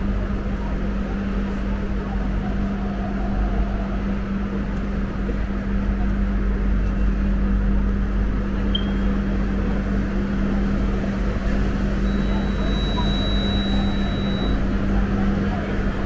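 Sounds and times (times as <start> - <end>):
light-rail car hum and rumble: 0.0 - 16.0.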